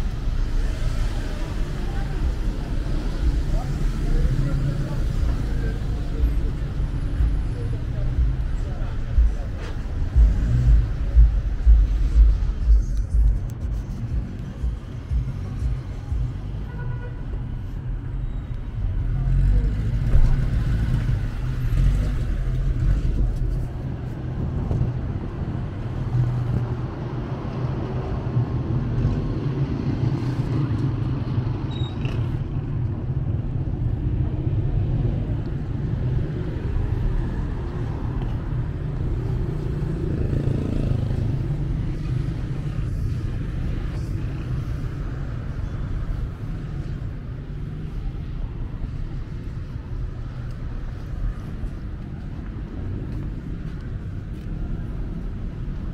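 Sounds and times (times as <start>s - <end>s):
faint voices of passers-by: 0.0s - 55.9s
road traffic rumble: 0.0s - 55.9s.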